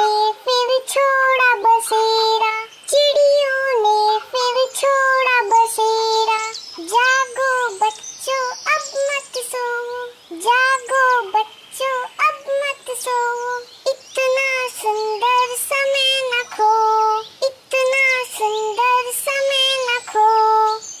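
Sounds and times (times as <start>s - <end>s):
child singing: 0.0s - 21.0s
bird chirps: 0.6s - 21.0s.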